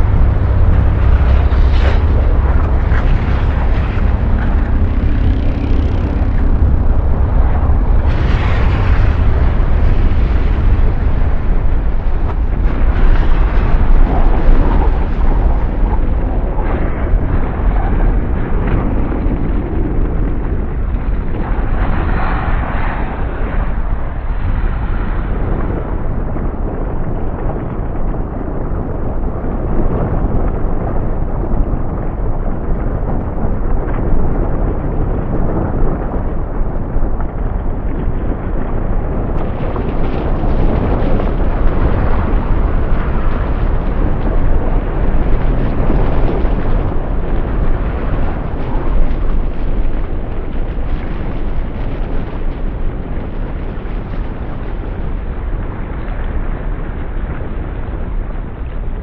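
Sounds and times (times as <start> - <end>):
deep rumble with rough crackle: 0.0 - 59.0.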